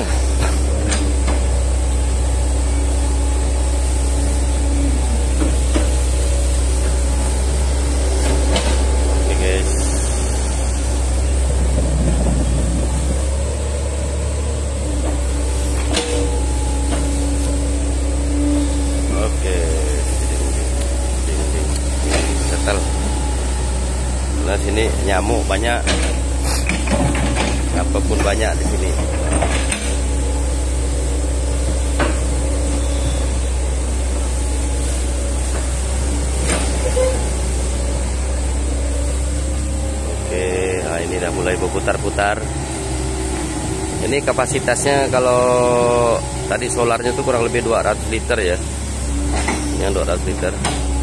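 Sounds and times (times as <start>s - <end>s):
excavator diesel engine humming: 0.0s - 51.0s.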